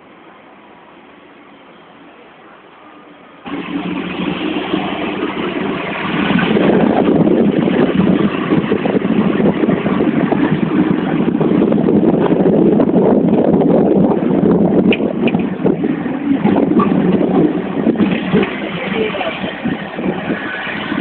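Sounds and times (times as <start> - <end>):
electric tram running: 0.0 - 21.0.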